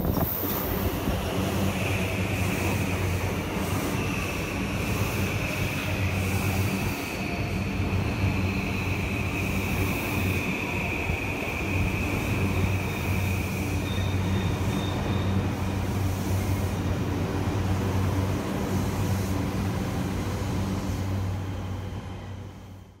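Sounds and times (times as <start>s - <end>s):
electric train running on rails: 0.0s - 23.0s.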